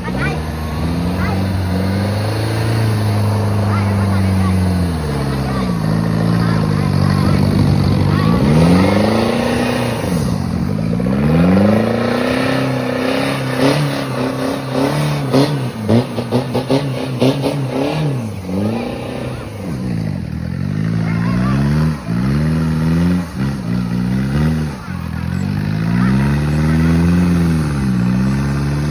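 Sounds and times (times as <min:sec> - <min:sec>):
off-road vehicle engine revving: 0:00.0 - 0:28.9.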